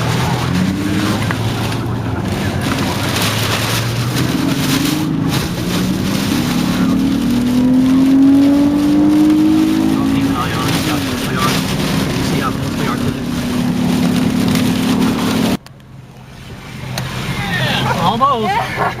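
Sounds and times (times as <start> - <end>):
car engine speeding up: 0.0 - 15.6
wind and road noise: 0.0 - 19.0.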